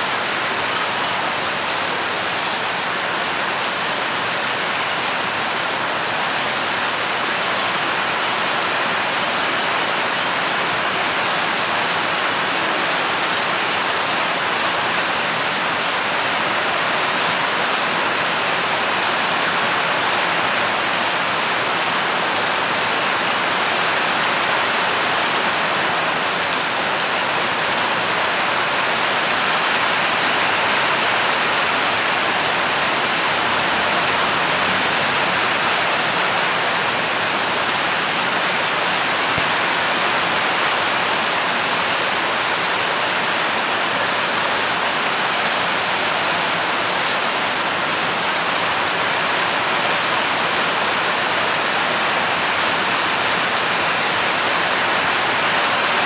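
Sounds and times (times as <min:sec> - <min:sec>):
heavy rain on standing water: 0:00.0 - 0:56.0.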